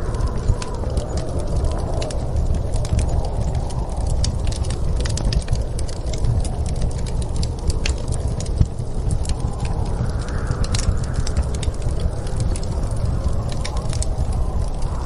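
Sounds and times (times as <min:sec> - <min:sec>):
fireplace crackling and popping: 0:00.0 - 0:15.0
snowstorm wind rumble: 0:00.0 - 0:15.0.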